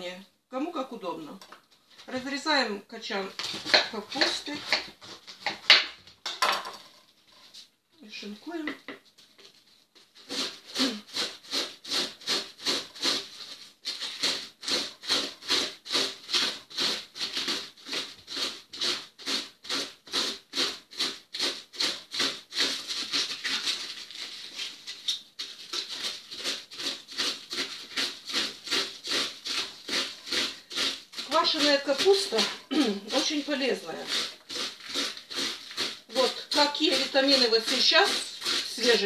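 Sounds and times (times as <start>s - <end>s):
cabbage shredding on slicer: 3.2s - 6.0s, 10.1s - 39.0s.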